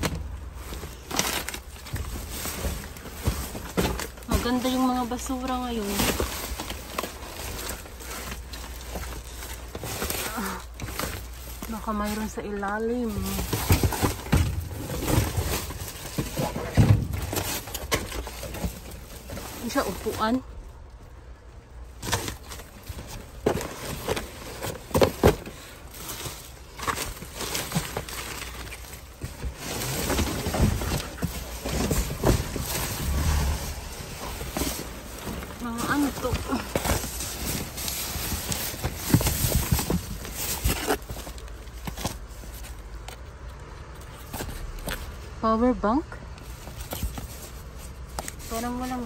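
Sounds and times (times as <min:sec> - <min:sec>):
plastic bags rustling: 0:00.0 - 0:45.4, 0:46.3 - 0:49.0.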